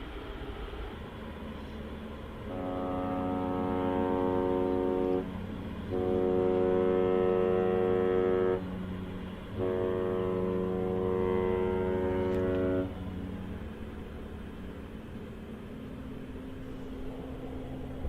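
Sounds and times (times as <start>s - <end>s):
low steady hum: 0.0s - 18.0s
ship's horn blasts: 2.4s - 18.0s.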